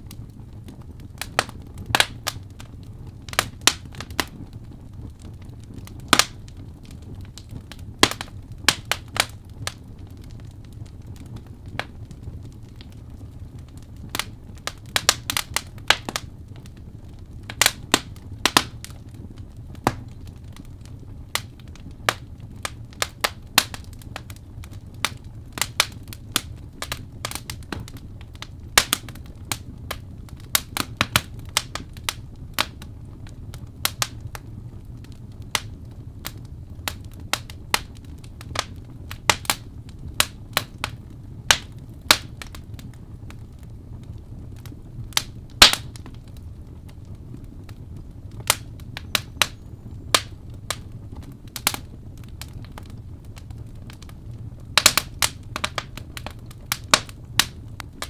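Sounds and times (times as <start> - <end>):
low steady rumble: 0.0 - 58.0
wood fire crackling: 0.0 - 58.0
sharp snaps and pops: 0.1 - 32.9, 33.5 - 47.1, 47.7 - 58.0.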